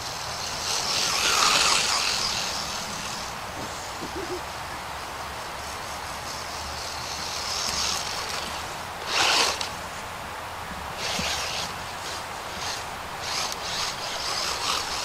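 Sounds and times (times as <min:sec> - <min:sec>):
rc truck motor whine: 0:00.0 - 0:04.3, 0:05.6 - 0:09.8, 0:10.9 - 0:15.0.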